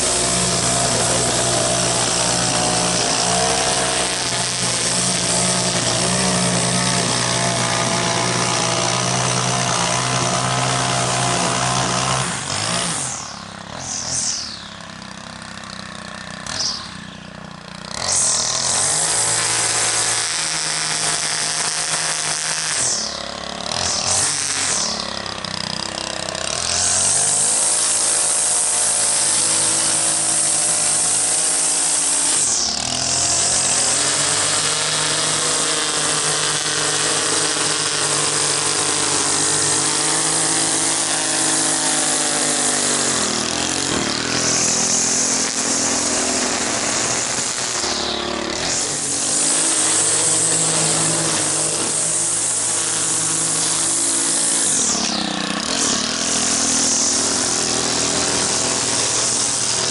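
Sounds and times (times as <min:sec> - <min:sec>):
string trimmer engine running: 0:00.0 - 0:59.9.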